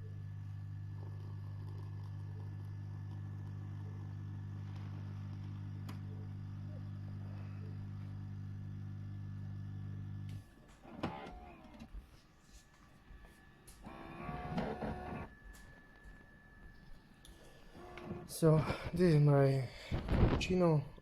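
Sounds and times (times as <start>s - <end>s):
coffee machine humming: 0.0s - 12.2s, 13.0s - 19.1s.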